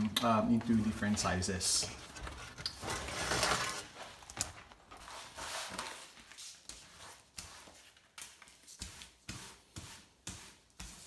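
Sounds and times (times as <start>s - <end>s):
plastic sheets rustling: 0.3s - 11.0s.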